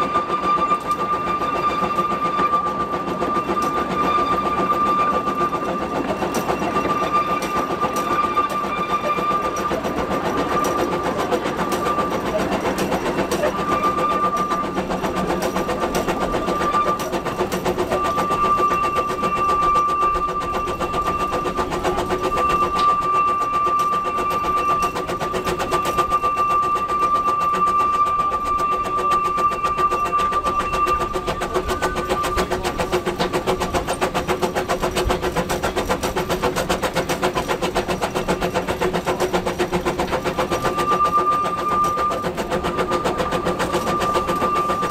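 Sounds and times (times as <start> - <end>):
running gear clattering on rails: 0.0 - 44.9.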